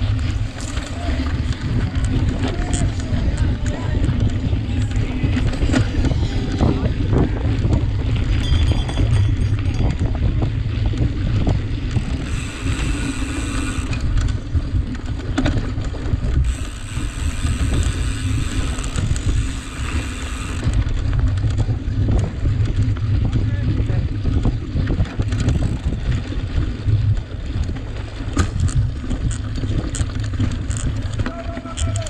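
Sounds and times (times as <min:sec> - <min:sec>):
bike rattling over rough ground: 0:00.0 - 0:32.0
wind buffeting microphone: 0:00.0 - 0:32.0.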